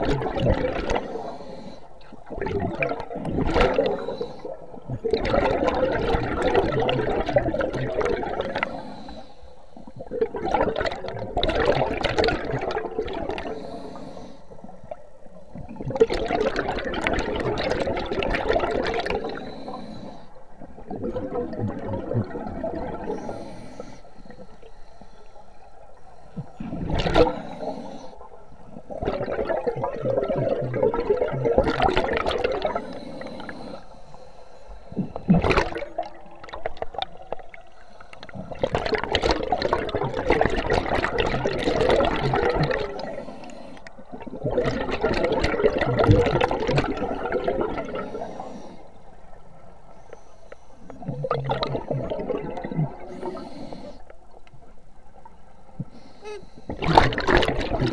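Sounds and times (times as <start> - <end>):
exhaled bubbles underwater: 0.0 - 24.8, 25.6 - 33.9, 34.7 - 50.0, 50.8 - 57.9.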